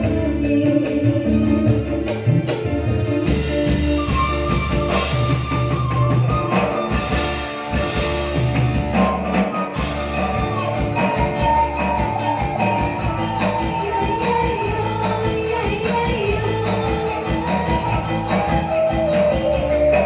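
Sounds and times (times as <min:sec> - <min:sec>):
live band instrumental music: 0:00.0 - 0:20.0.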